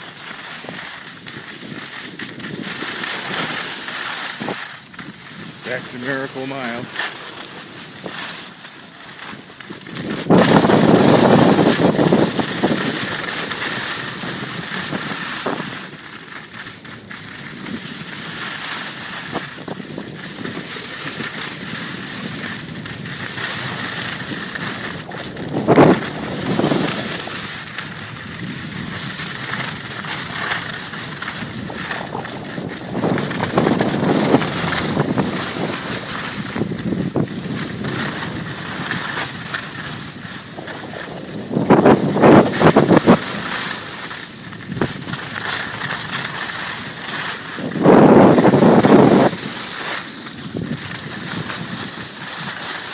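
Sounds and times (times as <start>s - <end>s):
skis scraping on packed snow: 0.0s - 52.9s
wind rushing over microphone: 0.0s - 52.9s.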